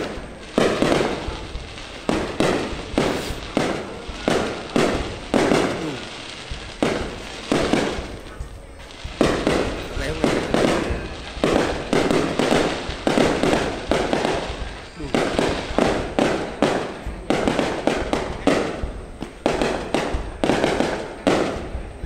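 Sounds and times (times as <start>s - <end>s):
firework shells bursting: 0.0s - 22.0s.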